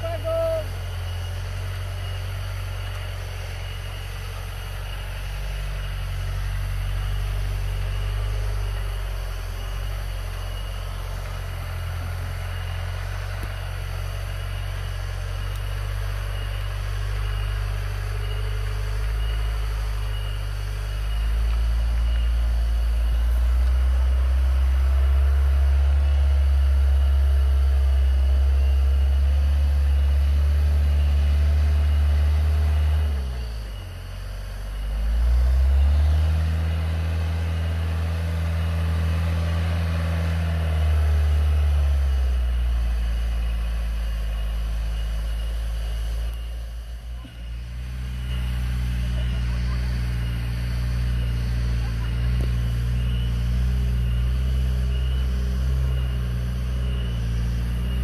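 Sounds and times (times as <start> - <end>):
jeep engine running at low revs: 0.0 - 58.0.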